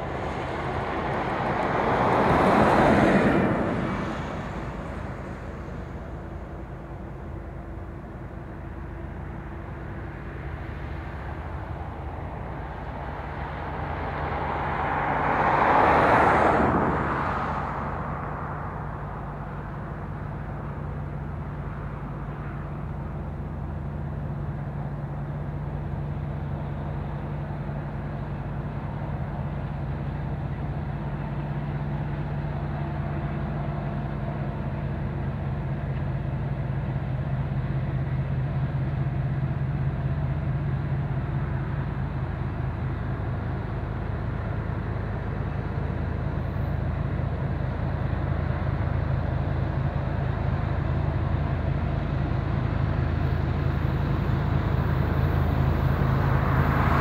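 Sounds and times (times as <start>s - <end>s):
broad rush of noise: 0.0s - 57.0s
diesel locomotive engines droning: 0.0s - 57.0s.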